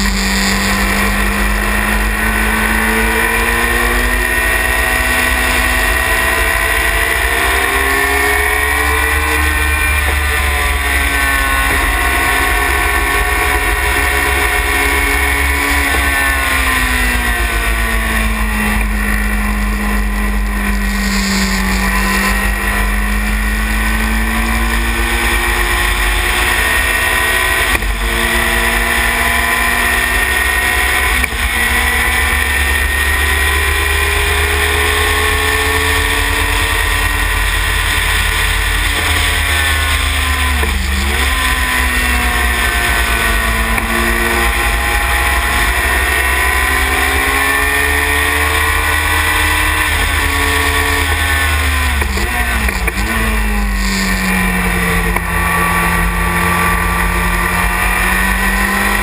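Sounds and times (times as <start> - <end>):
racing car engine at speed: 0.0 - 59.0.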